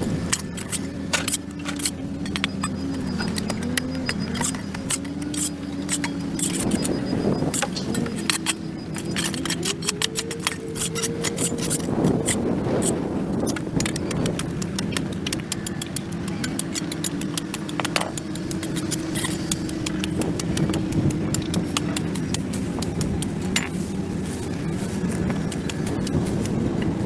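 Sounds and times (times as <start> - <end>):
engine hum: 0.0 - 27.0
tool scraping pavement: 0.0 - 27.0.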